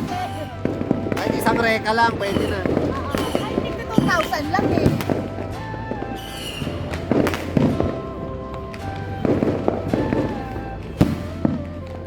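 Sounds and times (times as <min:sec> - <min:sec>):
background music: 0:00.0 - 0:12.0
fireworks bangs: 0:00.0 - 0:12.0.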